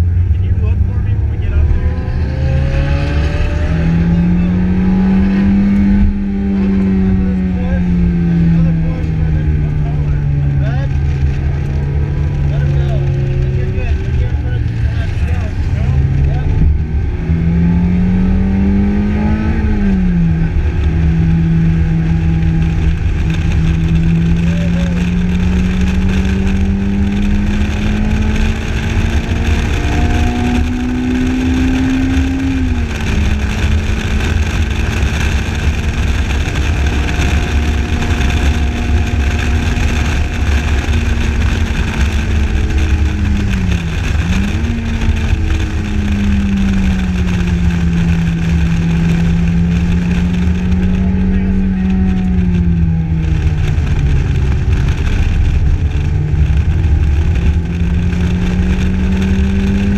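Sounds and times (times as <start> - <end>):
car engine under load: 0.0 - 59.9
low rumble of wind and road: 0.0 - 59.9.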